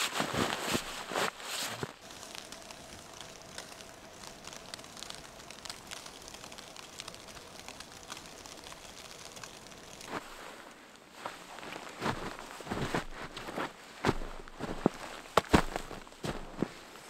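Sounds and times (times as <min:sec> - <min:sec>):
soft steady hiss: 0:00.0 - 0:17.0
light scattered ticks: 0:00.6 - 0:16.8.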